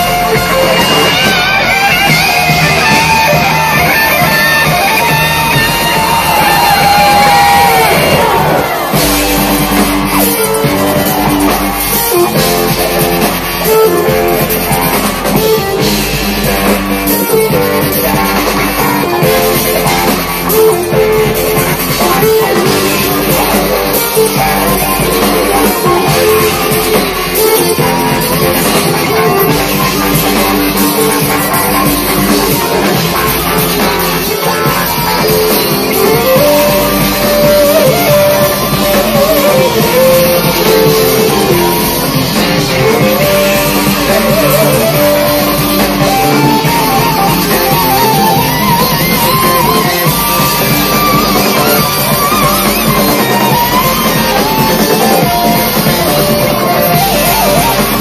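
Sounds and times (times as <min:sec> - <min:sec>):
live electronic rock band: 0:00.0 - 0:58.0.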